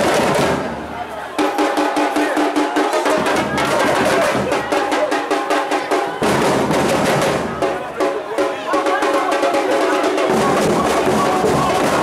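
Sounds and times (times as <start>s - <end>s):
fast drum rhythm: 0.0s - 0.8s, 1.4s - 12.0s
crowd voices: 0.0s - 12.0s.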